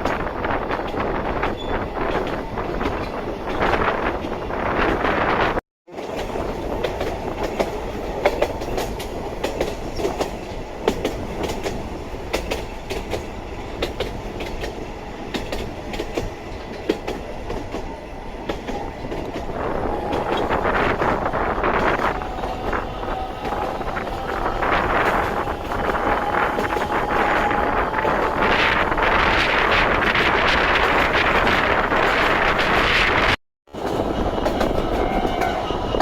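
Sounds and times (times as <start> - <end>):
electric train rumbling: 0.0 - 36.0.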